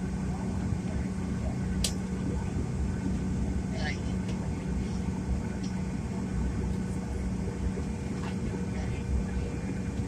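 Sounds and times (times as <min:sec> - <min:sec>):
jet engines idling in cabin: 0:00.0 - 0:10.0.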